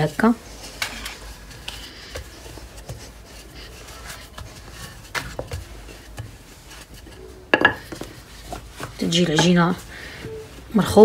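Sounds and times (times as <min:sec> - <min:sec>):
rolling pin rubbing on dough: 0:00.0 - 0:11.0.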